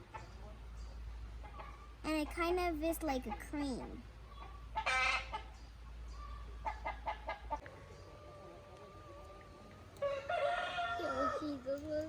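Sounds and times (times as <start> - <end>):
chickens clucking: 1.3 - 2.5, 3.1 - 11.8.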